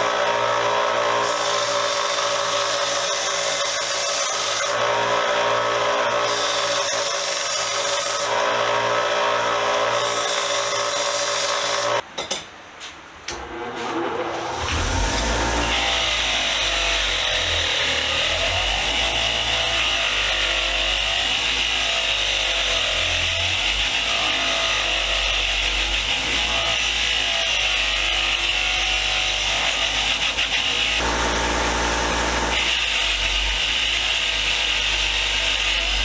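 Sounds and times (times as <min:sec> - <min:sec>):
bench grinder abrading metal: 0:00.0 - 0:12.4, 0:13.3 - 0:36.0.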